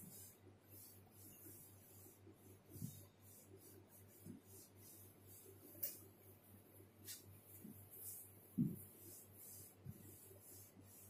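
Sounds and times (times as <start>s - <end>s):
duster wiping a whiteboard: 0.0s - 11.0s.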